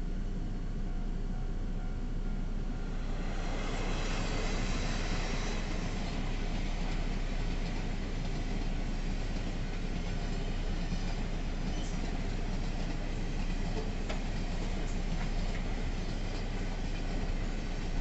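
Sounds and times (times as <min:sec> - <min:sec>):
freight train rolling past: 0:00.0 - 0:18.0
steel wheels rattling on rails: 0:02.8 - 0:18.0.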